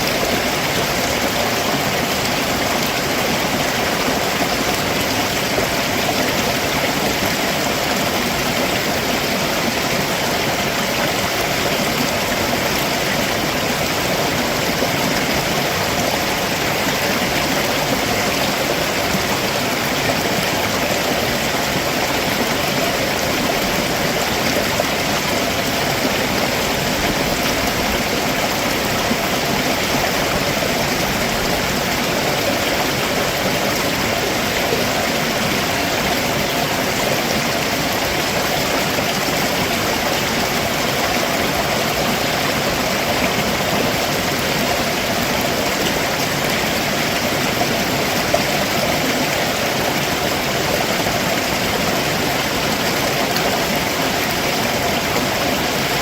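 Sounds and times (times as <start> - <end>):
stream rushing over stones: 0.0 - 56.0.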